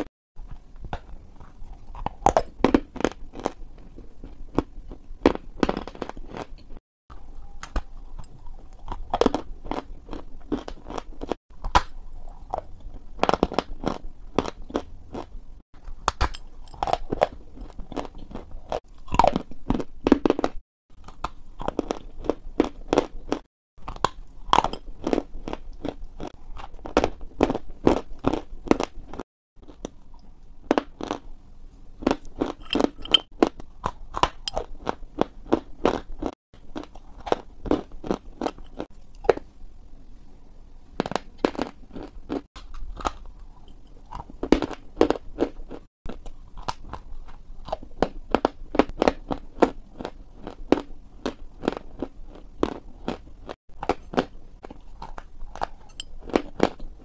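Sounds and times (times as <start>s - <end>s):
crunchy dessert chewing: 0.4s - 31.3s, 32.0s - 39.4s, 41.0s - 57.0s.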